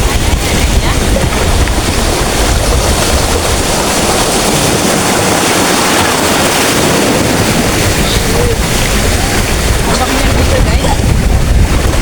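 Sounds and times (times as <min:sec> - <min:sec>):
big waves breaking: 0:00.0 - 0:12.0
wind buffeting microphone: 0:00.0 - 0:12.0.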